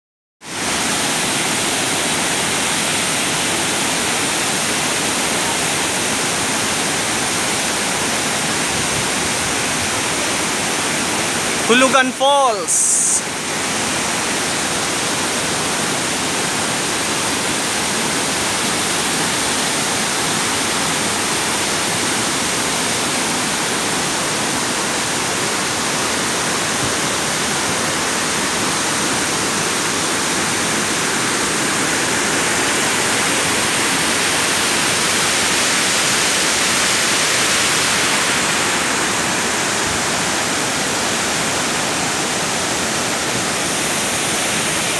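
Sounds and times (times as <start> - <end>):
waterfall crashing onto rocks: 0.5 - 44.9.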